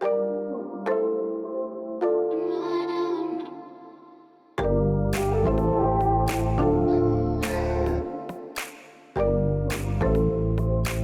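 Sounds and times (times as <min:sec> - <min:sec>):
gentle instrumental music: 0:00.0 - 0:03.5, 0:04.6 - 0:11.0.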